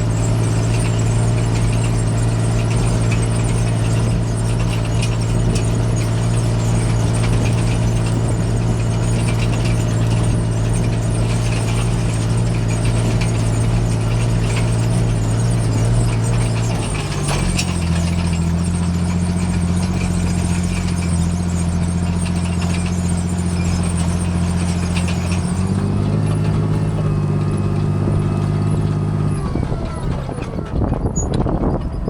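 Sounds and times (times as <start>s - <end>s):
metallic rattling and squeaking: 0.0s - 32.0s
tractor diesel engine droning: 0.0s - 32.0s.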